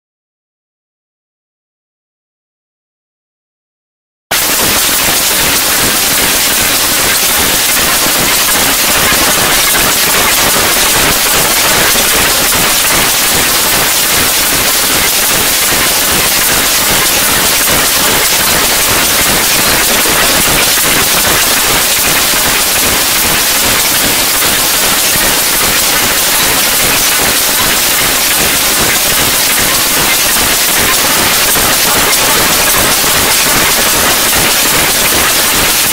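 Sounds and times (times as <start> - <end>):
loud steady static hiss: 4.3 - 35.9.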